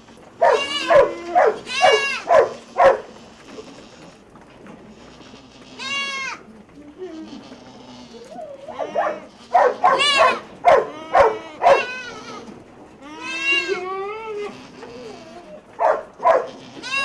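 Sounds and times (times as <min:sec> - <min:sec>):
goats bleating: 0:00.0 - 0:17.0.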